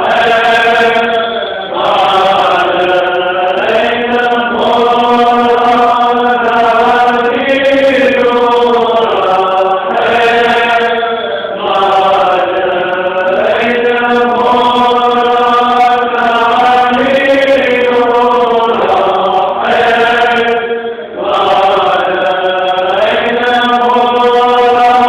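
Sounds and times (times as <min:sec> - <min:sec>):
monks chanting: 0:00.0 - 0:25.0.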